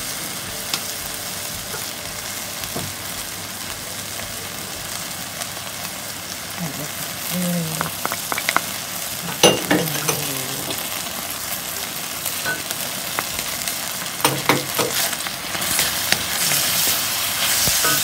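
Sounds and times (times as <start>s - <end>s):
chicken and onion sizzling in wok: 0.0s - 18.0s.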